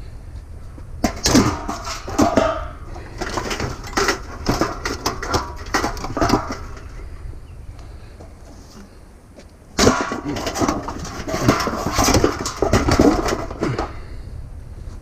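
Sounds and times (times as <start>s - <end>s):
clattering of handled objects: 1.0s - 14.2s.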